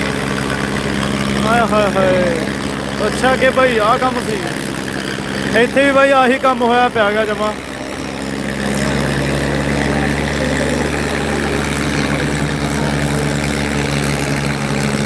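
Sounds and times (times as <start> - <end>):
tractor diesel engines droning: 0.0 - 15.0.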